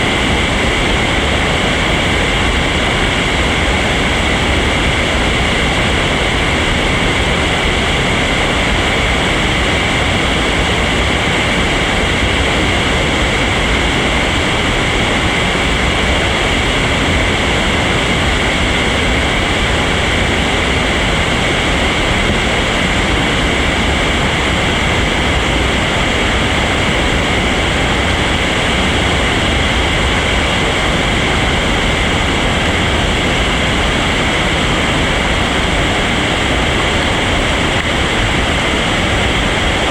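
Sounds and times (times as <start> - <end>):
whitewater rapids rushing: 0.0 - 39.9.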